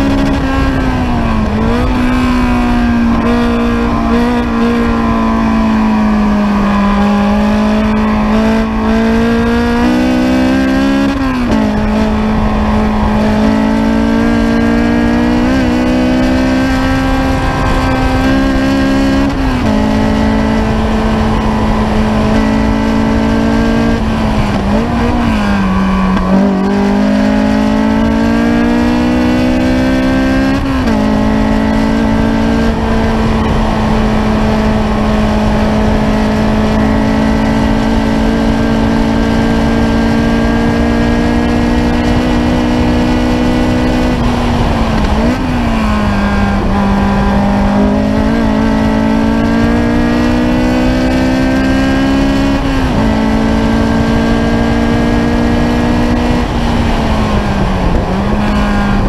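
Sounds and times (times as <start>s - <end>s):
car engine accelerating and upshifting: 0.0s - 59.0s
wind rushing: 0.0s - 59.0s.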